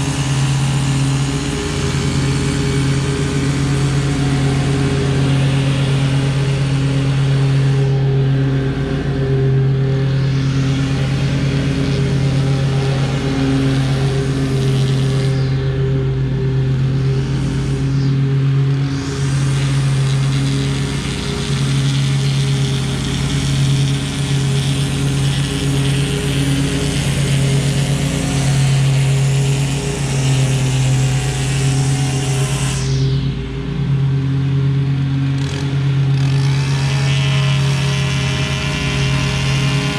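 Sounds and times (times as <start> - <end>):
mower engine humming: 0.0 - 39.9
string trimmer whining: 0.0 - 39.9.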